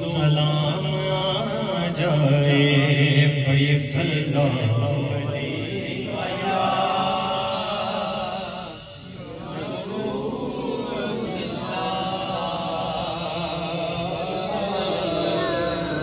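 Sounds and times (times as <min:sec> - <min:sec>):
men chanting over loudspeakers: 0:00.0 - 0:16.0.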